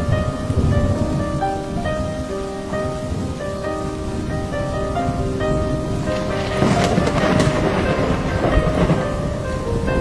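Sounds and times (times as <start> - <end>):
background music with held notes: 0.0 - 10.0
steady rain: 0.0 - 10.0
thunder rolling: 0.0 - 10.0.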